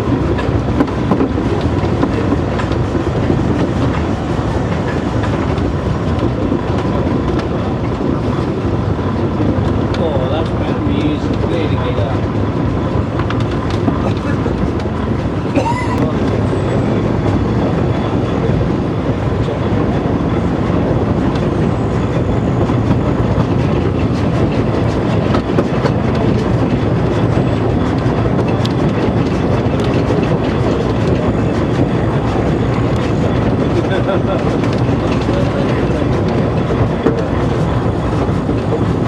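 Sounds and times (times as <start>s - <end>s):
train running rumble: 0.0s - 39.0s
wheels clicking over rails: 0.0s - 39.0s.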